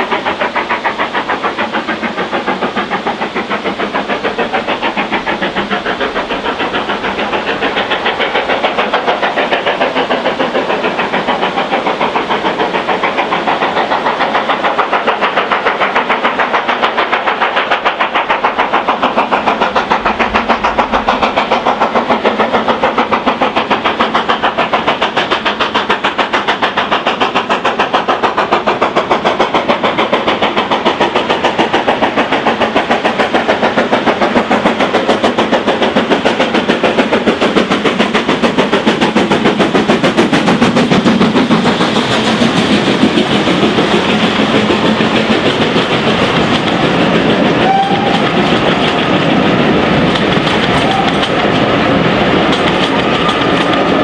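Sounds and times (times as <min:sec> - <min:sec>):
steam locomotive exhaust beating: 0:00.0 - 0:54.0.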